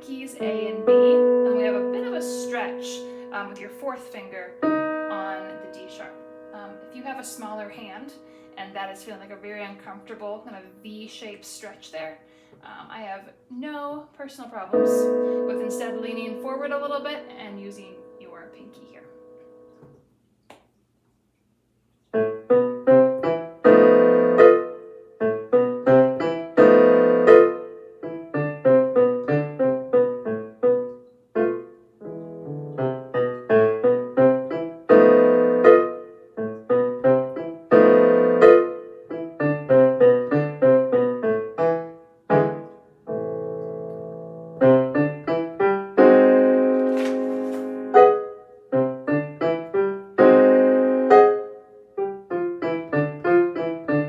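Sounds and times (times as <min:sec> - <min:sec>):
solo piano piece: 0:00.0 - 0:12.8, 0:14.6 - 0:20.0, 0:22.1 - 0:54.0.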